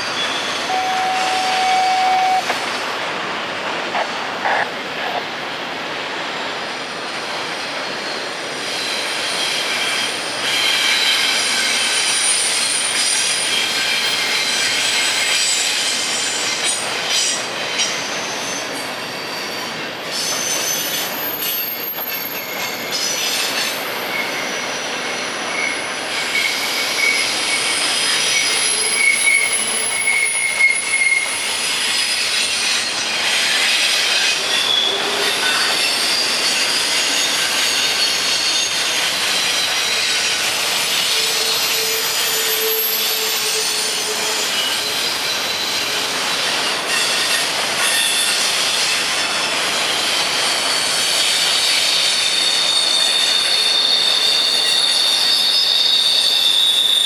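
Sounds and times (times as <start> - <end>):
high wheel squeals: 0.0 - 2.5, 7.6 - 57.0
train wheels rumbling on rails: 0.0 - 57.0.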